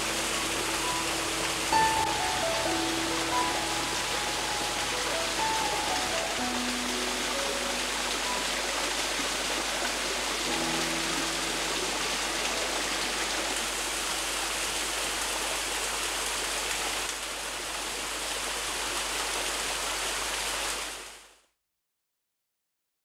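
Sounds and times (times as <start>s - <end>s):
water rushing over rocks: 0.0s - 21.2s.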